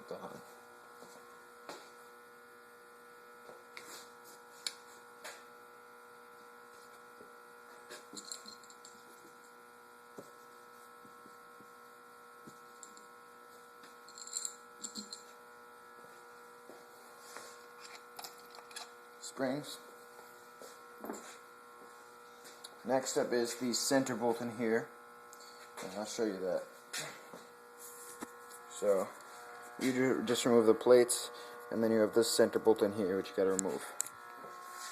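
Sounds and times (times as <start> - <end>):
faint electrical hum: 0.0 - 34.9.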